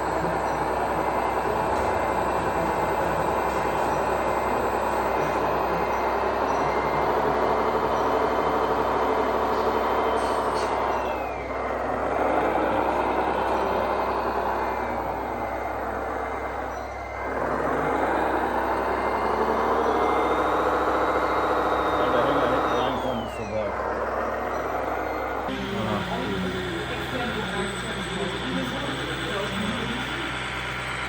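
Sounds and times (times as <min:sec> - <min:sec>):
model truck motor whining: 0:00.0 - 0:31.0.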